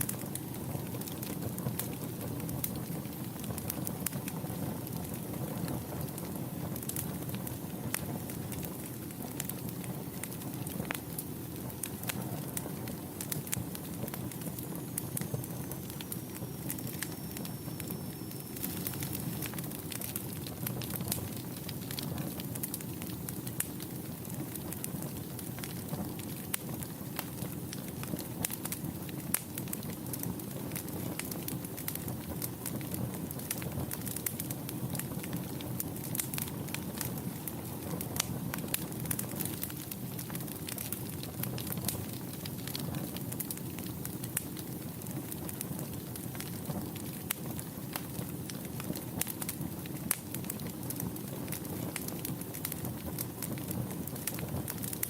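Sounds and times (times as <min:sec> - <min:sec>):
wood fire crackling and popping: 0:00.0 - 0:55.0
low rush of flames: 0:00.1 - 0:55.0.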